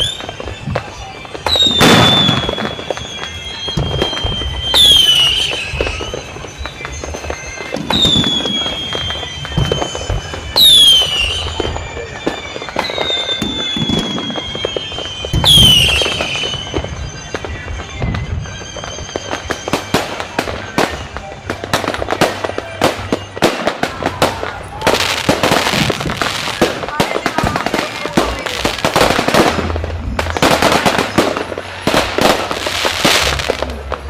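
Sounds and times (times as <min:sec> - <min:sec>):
crackling firework pops: 0:00.0 - 0:34.0
firework shells booming: 0:00.0 - 0:34.0
whistling firework shells: 0:00.0 - 0:34.0.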